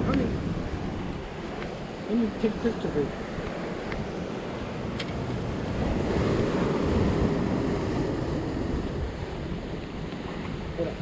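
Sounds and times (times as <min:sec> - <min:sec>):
surf washing against rocks: 0:00.0 - 0:11.0
wind on microphone: 0:00.0 - 0:11.0.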